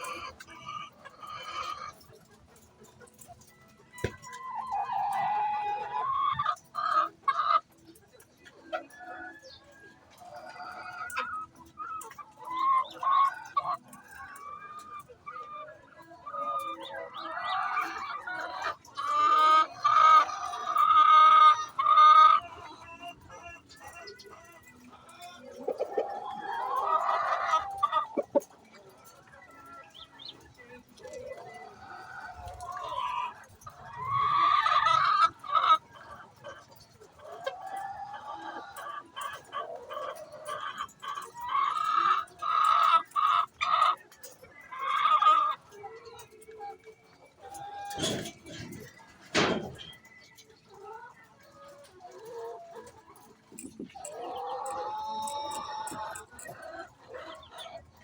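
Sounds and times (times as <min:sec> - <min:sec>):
hen clucking: 0:00.0 - 0:58.0.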